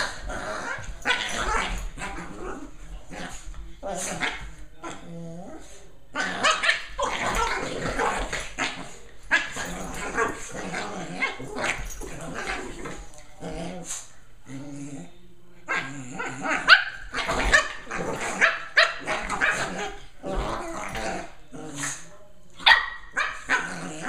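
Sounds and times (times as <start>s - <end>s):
puppies growling: 0.0s - 22.1s, 23.4s - 24.0s.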